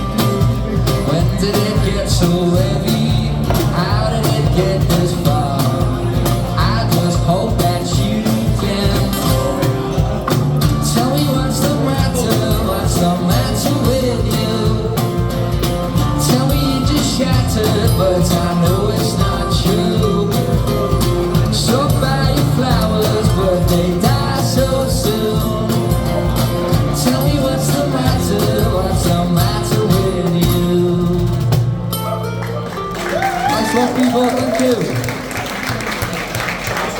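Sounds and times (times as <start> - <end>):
live band playing a song: 0.0 - 36.9.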